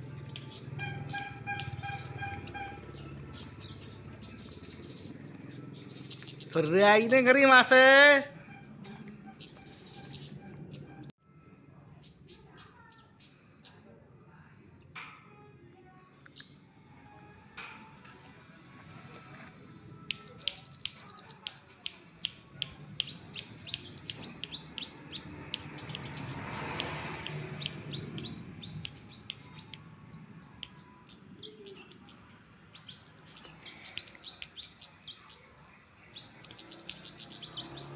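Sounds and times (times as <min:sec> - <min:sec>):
songbird chirping: 0:00.0 - 0:37.9.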